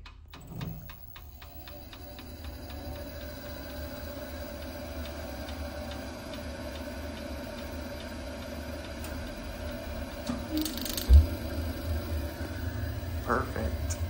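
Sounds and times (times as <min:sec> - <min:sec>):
boiler ignition sparking ticks: 0:00.0 - 0:11.6
low steady hum: 0:00.0 - 0:14.0.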